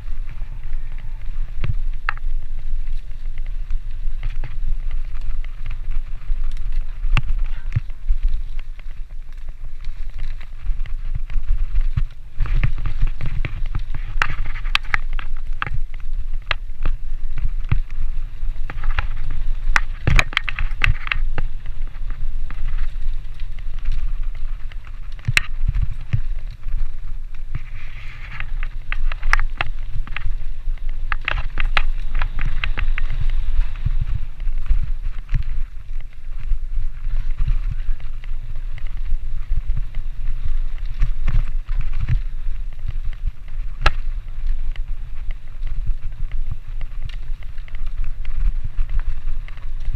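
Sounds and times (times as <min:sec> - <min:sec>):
motorcycle engine rumble: 0:00.0 - 0:49.9.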